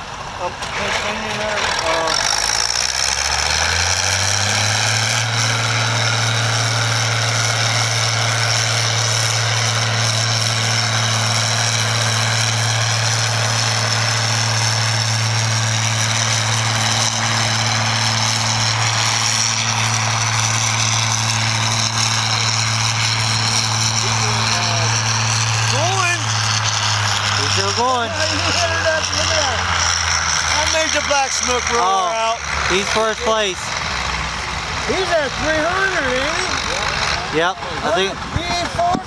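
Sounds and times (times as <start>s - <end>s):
tractor engine at full throttle: 0.0s - 39.0s.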